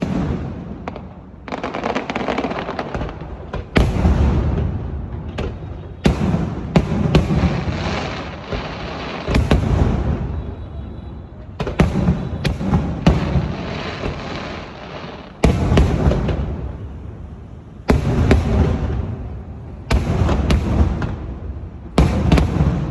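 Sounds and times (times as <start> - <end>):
fireworks bursting: 0.0 - 22.9.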